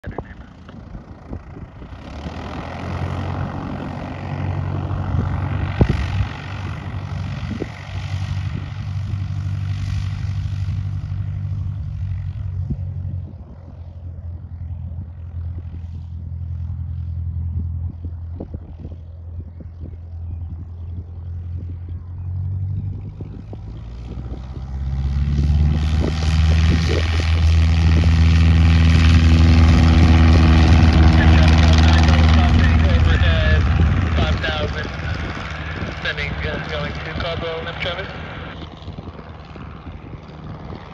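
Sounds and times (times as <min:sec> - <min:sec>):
propeller airplane engine: 0:00.0 - 0:40.9.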